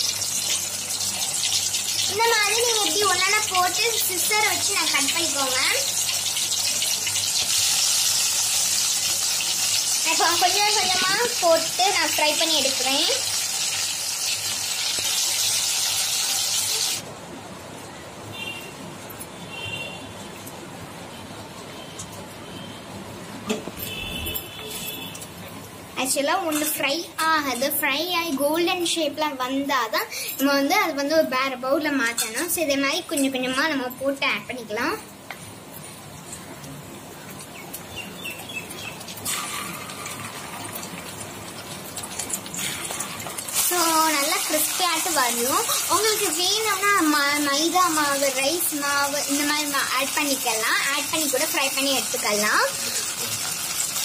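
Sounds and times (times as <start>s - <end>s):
dough sizzling in hot oil: 0.0s - 17.0s, 23.8s - 54.0s.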